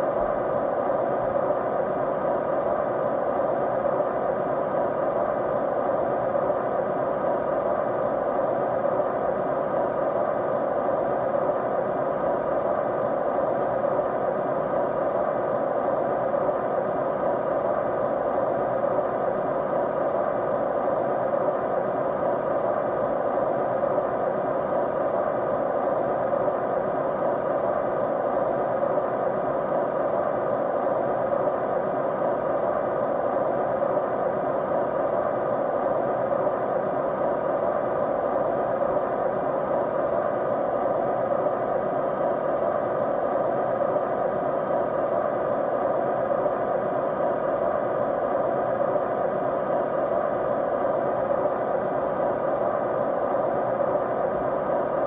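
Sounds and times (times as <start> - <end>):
faint steady hum: 0.0 - 55.0
steady white noise hiss: 0.0 - 55.0.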